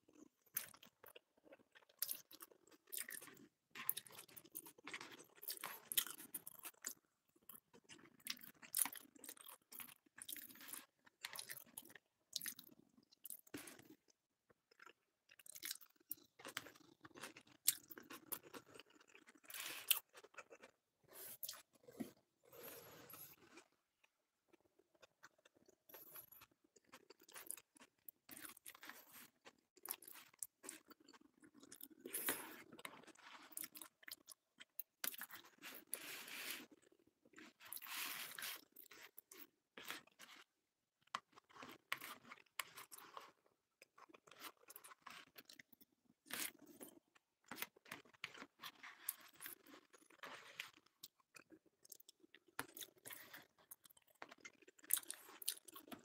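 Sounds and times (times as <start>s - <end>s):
person chewing food: 0.1s - 56.0s.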